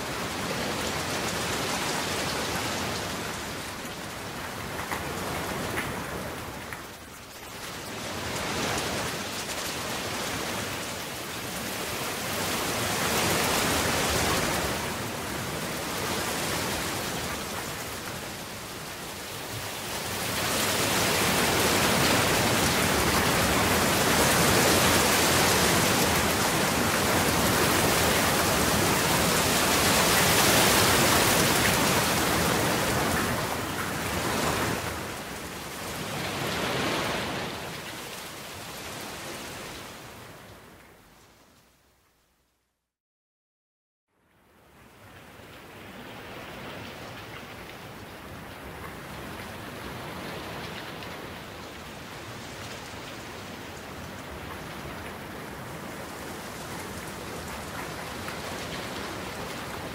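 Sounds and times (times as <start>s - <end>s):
heavy rain falling: 0.0s - 40.3s, 45.0s - 59.9s.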